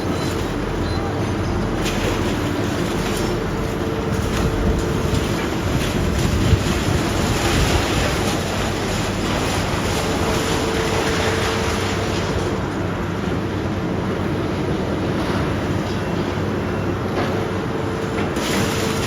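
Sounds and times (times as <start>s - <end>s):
diesel engine running: 0.0s - 19.0s
hydraulic whine: 0.0s - 19.0s.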